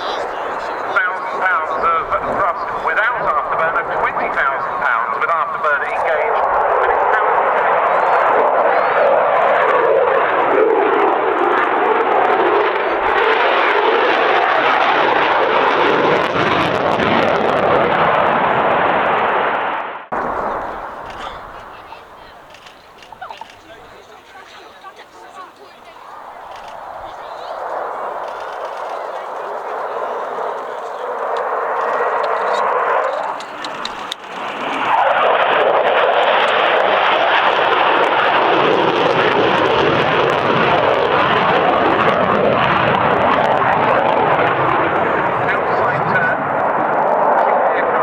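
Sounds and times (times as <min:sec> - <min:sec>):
loud jet rumble: 0:00.0 - 0:48.0.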